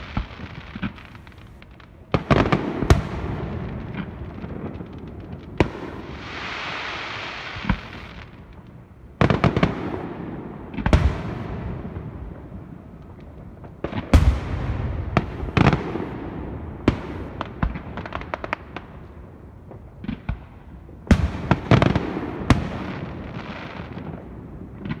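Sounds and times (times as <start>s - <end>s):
small fireworks pops: 0.0s - 10.1s, 10.7s - 16.2s, 16.8s - 25.0s
fireworks booming: 0.0s - 25.0s.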